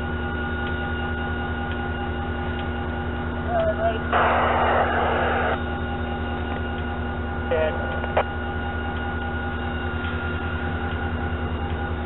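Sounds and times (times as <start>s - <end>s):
diesel locomotives idling: 0.0s - 12.0s.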